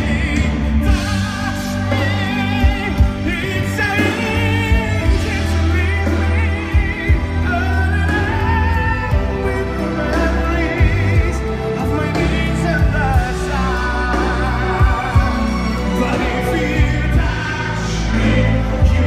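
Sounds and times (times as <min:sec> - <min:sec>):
operatic pop singing: 0:00.0 - 0:19.0
orchestra accompaniment: 0:00.0 - 0:19.0.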